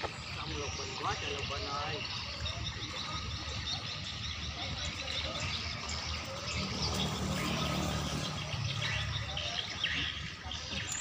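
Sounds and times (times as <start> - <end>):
birds chirping: 0.0 - 11.0
water sloshing and splashing: 0.0 - 11.0.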